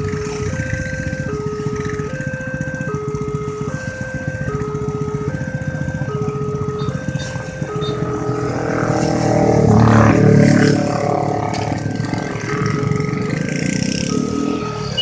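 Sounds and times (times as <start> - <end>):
train engine rumble: 0.0 - 15.0
two-tone level crossing siren: 0.0 - 15.0.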